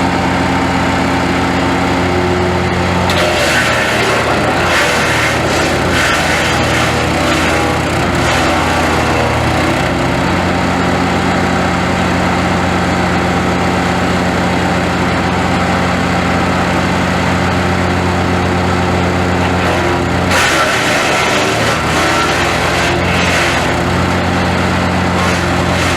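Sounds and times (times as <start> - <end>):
wood chipper engine running: 0.0 - 25.9.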